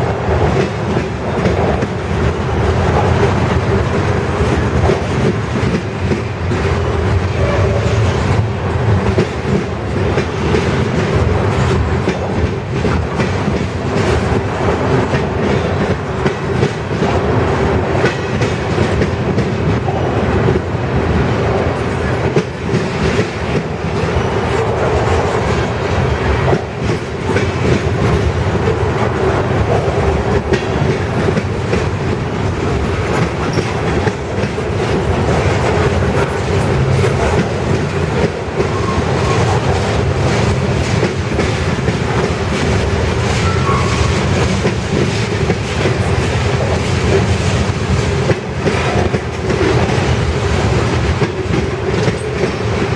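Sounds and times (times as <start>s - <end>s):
train wheels clattering over rail joints: 0.0s - 52.9s.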